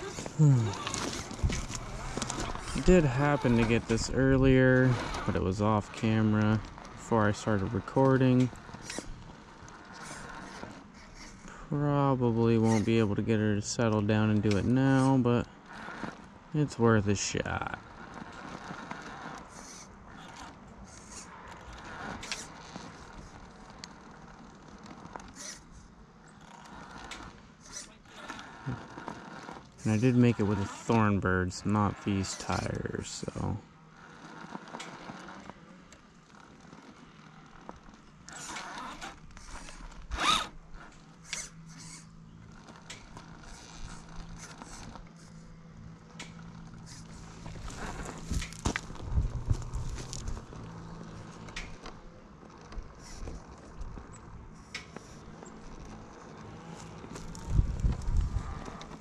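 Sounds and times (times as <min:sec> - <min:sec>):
rc car motor whir: 0:00.0 - 0:59.0
tires scraping on terrain: 0:00.0 - 0:59.0.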